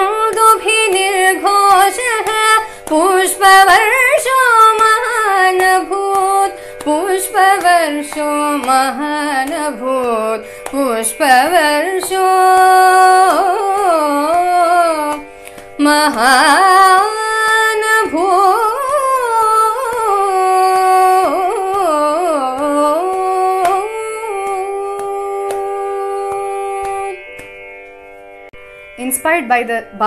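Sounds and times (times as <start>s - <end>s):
woman singing: 0.0s - 27.3s.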